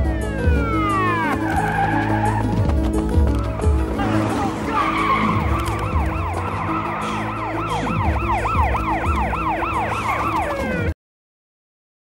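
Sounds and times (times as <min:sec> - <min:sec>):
emergency siren yelping: 0:00.0 - 0:02.6, 0:03.5 - 0:11.0.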